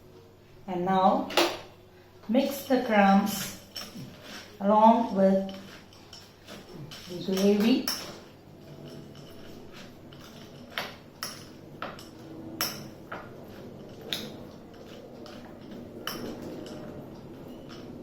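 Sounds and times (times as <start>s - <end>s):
cutlery clinking against a bowl: 3.4s - 18.0s.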